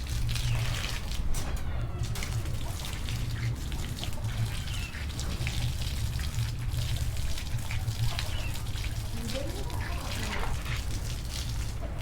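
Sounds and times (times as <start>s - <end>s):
water splashing over cage: 0.0s - 12.0s.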